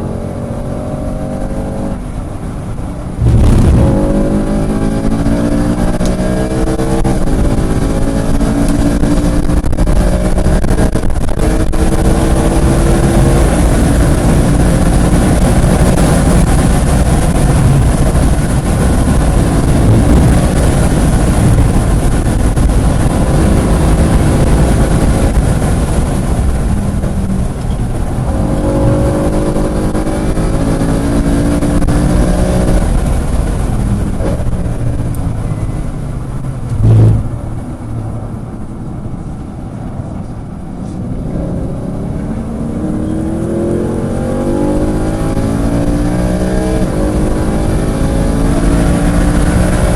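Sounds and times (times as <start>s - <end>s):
car engine revving hard: 0.0s - 2.1s, 3.1s - 34.8s, 41.1s - 49.9s
wind and road noise: 0.0s - 49.9s.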